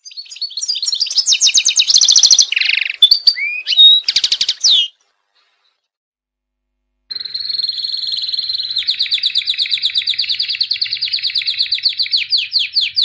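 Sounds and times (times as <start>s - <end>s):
canary singing: 0.0s - 5.6s, 7.1s - 13.0s.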